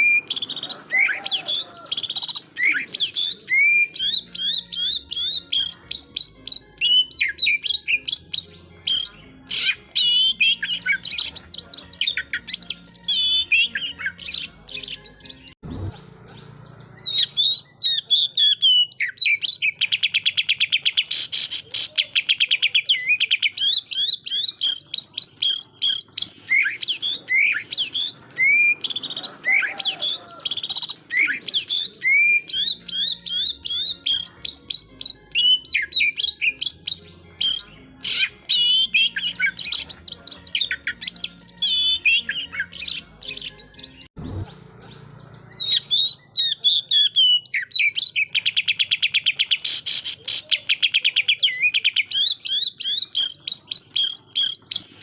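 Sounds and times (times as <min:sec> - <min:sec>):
bird singing whistles and chatter: 0:00.0 - 0:55.0.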